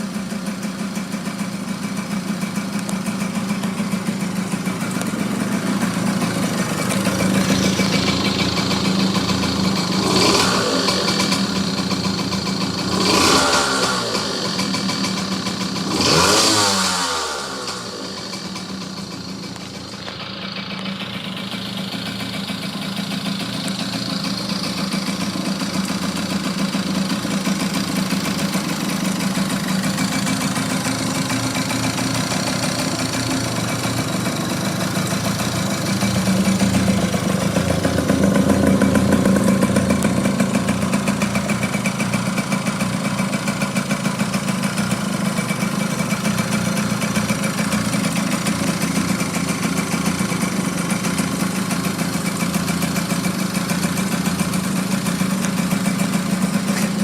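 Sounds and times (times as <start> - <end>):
two-stroke engine idling: 0.0 - 57.0.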